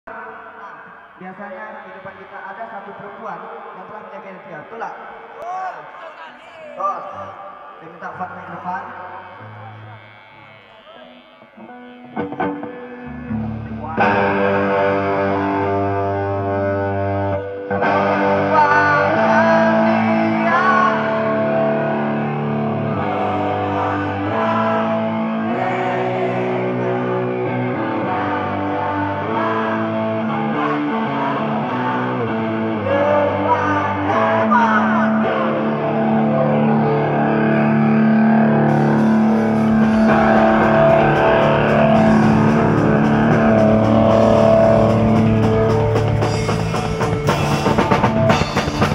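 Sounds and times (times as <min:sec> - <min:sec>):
distorted electric guitars: 0:00.1 - 0:06.0, 0:06.8 - 0:48.9.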